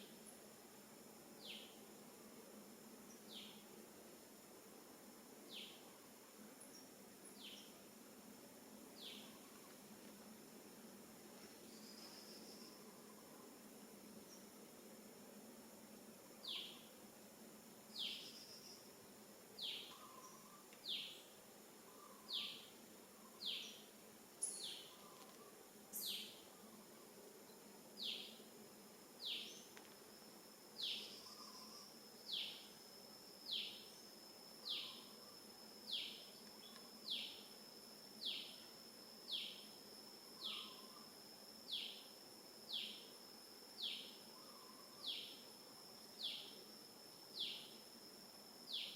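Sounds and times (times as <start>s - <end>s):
faint high hum: 0.0s - 48.9s.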